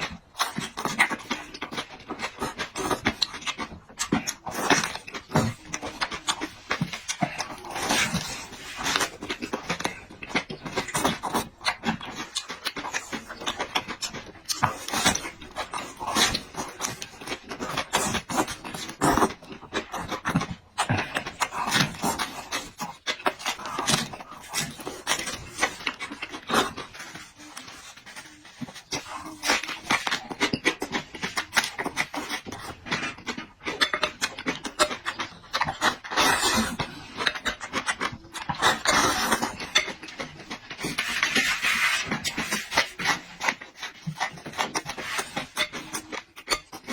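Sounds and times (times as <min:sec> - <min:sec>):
wet chewing and mouth smacking: 0:00.0 - 0:46.9.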